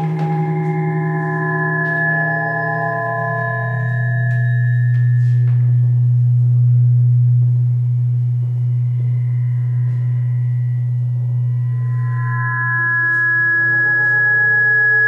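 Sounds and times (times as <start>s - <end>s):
faint high feedback tones: 0.0s - 15.0s
feedback low drone: 0.0s - 15.0s.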